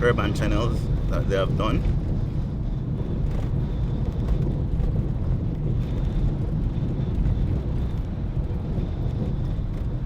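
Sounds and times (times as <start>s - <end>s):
car driving on road: 0.0s - 10.0s
wind buffeting microphone: 0.0s - 10.0s.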